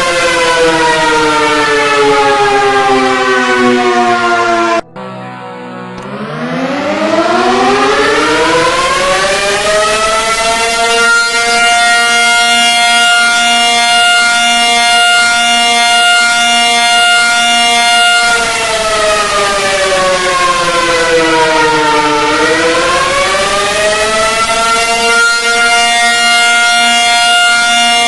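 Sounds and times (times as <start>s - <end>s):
emergency alert siren: 0.0s - 28.0s.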